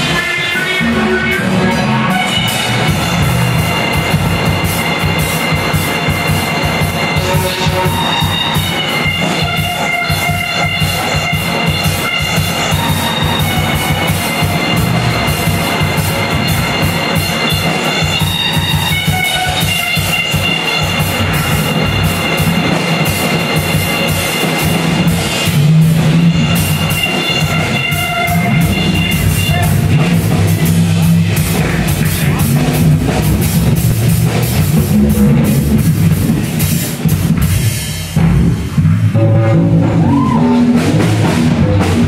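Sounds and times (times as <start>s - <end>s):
live rock band playing: 0.0s - 42.0s
snare and cymbal hits: 2.0s - 42.0s.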